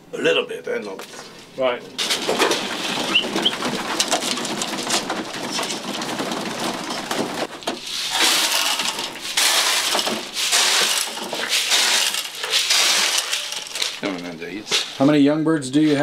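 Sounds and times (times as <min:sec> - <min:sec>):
grain rattling from a bucket: 0:02.0 - 0:15.0
pigeons pecking grain: 0:02.0 - 0:15.0.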